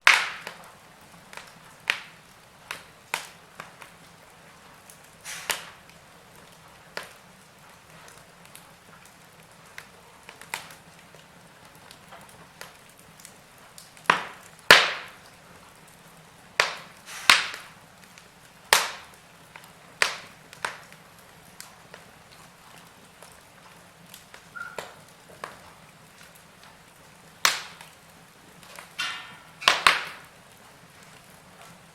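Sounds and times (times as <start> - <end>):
sharp pops and snaps: 0.0 - 16.0, 16.6 - 31.8
wood fire crackling: 0.0 - 31.9
faint hiss: 0.2 - 31.9.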